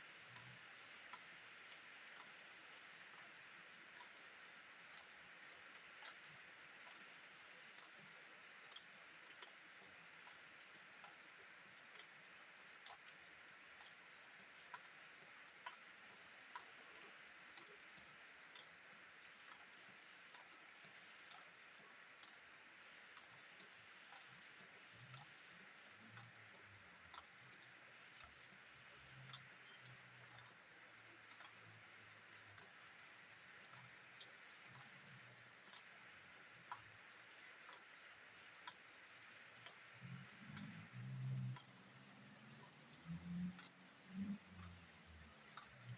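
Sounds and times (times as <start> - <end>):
faint rain hiss: 0.0 - 45.9
raindrops ticking: 0.1 - 45.9.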